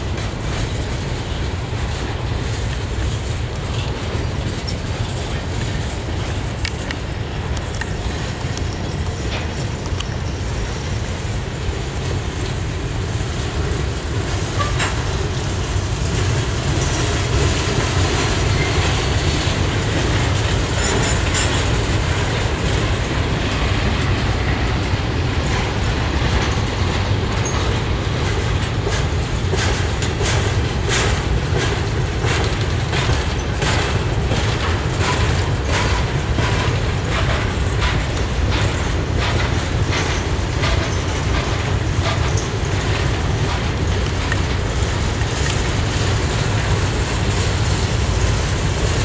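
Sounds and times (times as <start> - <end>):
clickety-clack over rail joints: 0.0 - 49.0
train wheels rumbling on rails: 0.0 - 49.0.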